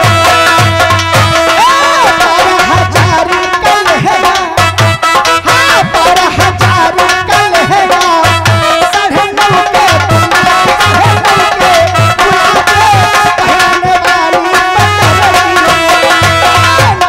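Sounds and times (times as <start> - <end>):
fast hand drum rhythm: 0.0 - 17.0.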